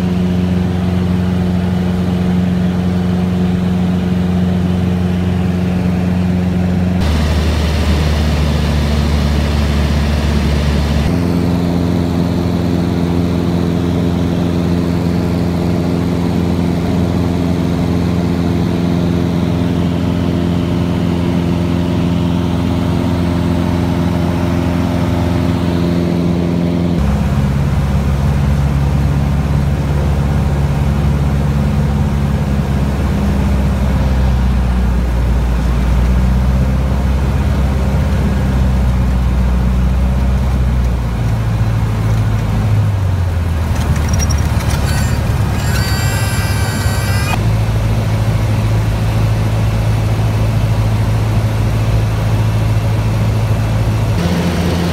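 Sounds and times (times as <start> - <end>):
light airplane engine droning: 0.0 - 54.9.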